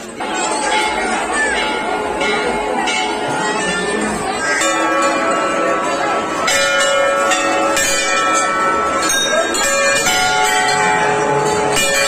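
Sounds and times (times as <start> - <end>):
crowd hubbub: 0.0 - 12.0
temple bells ringing: 0.0 - 12.0.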